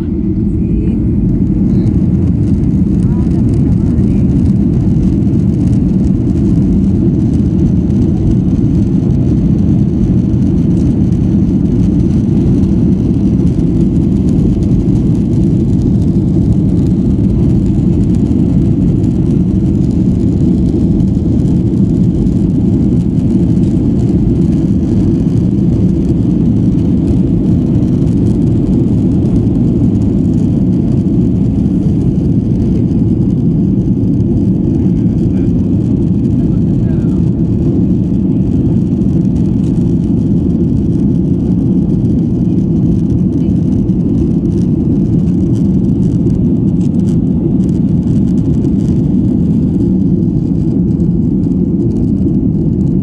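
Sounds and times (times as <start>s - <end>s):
jet engines low rumble: 0.0s - 53.0s.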